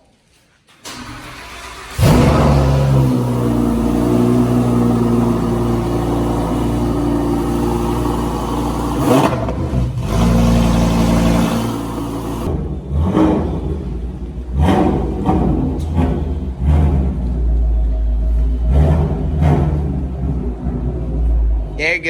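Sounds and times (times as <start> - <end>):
car engine running loudly: 1.8 - 21.6.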